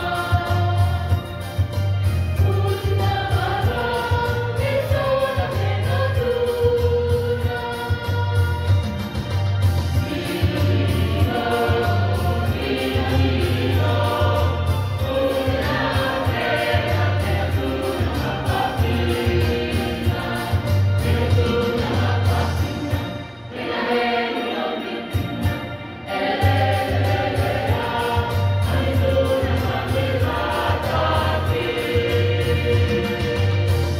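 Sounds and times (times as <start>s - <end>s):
choir singing: 0.0s - 9.1s, 9.9s - 33.9s.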